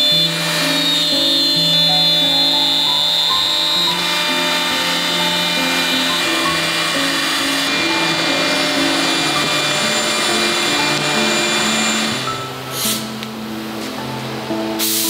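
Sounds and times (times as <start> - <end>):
router spindle milling plywood: 0.0 - 12.3
background music: 0.0 - 15.0.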